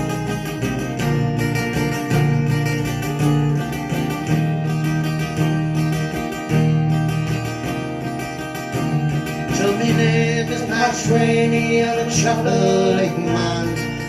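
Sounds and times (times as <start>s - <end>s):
bass notes: 0.0s - 14.0s
strummed acoustic guitar: 0.0s - 14.0s.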